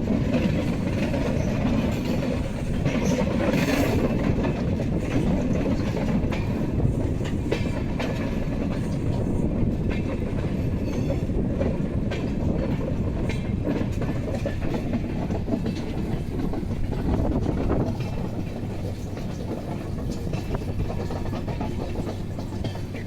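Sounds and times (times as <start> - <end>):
train rumbling: 0.0 - 23.0
clicking and rattling: 0.3 - 23.0.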